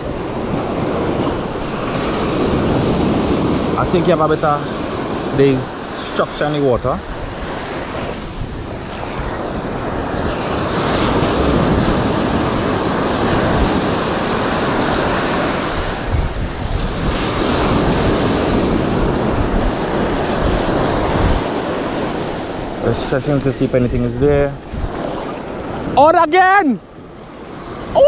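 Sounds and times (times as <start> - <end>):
wind buffeting microphone: 0.0 - 26.0
sea surf breaking on sand: 0.0 - 28.0.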